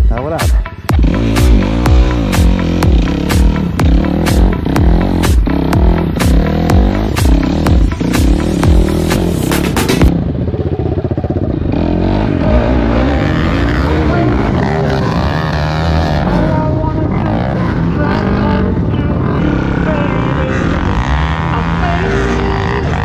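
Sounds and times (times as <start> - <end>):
quad bike engines revving: 0.8 - 23.0.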